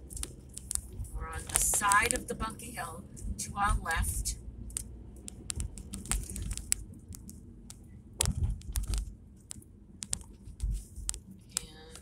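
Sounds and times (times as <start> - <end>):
car driving low rumble: 0.0 - 12.0
sharp clicks and crackles: 0.0 - 12.0.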